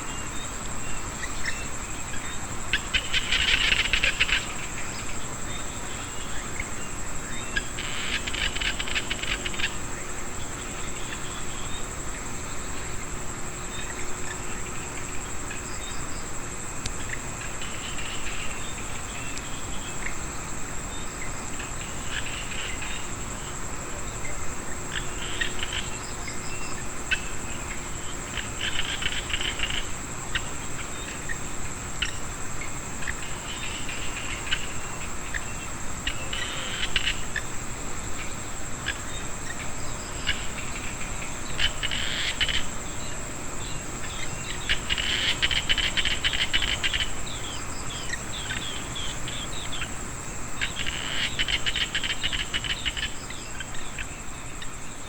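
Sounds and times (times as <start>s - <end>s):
high-pitched insect trill: 0.0s - 55.0s
frogs clicking calls: 0.3s - 20.4s, 21.1s - 55.0s.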